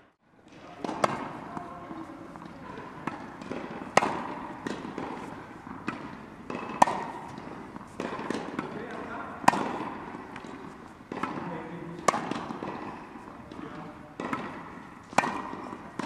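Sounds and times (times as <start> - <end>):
tennis balls bouncing on court: 0.4 - 16.0
tennis balls struck with rackets: 0.4 - 16.0.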